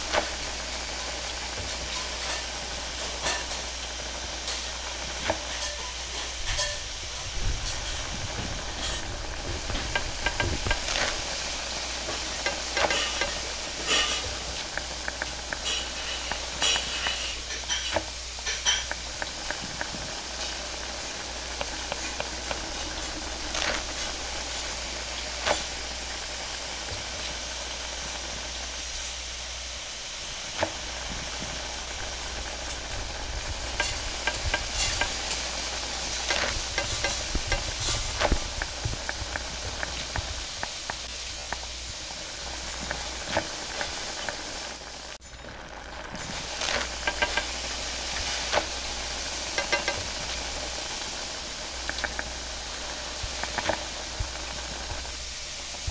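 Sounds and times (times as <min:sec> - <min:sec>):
dough sizzling on a griddle: 0:00.0 - 0:55.9.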